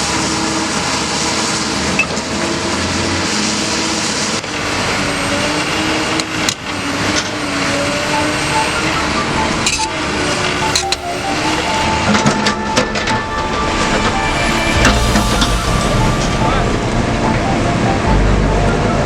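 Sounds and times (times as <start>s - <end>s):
excavator diesel engine running: 3.2s - 19.0s.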